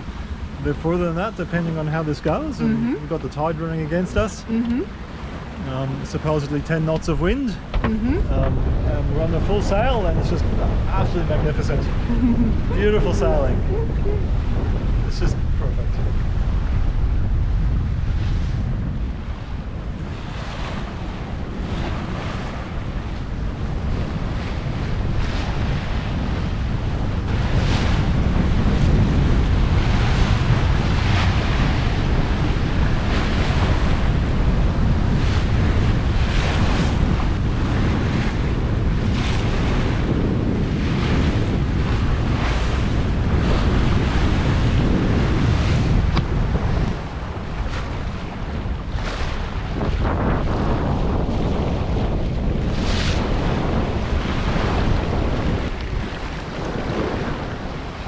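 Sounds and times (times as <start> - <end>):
water splashing along hull: 0.0 - 58.0
wind buffeting microphone: 0.0 - 58.0.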